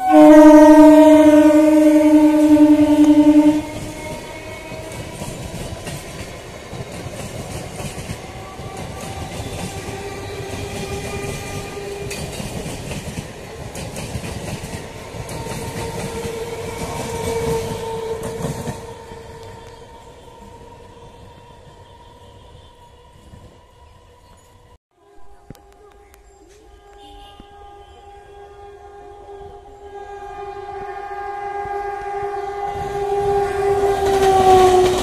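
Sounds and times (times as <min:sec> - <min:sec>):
train rumble: 0:00.0 - 0:24.7, 0:25.9 - 0:35.0.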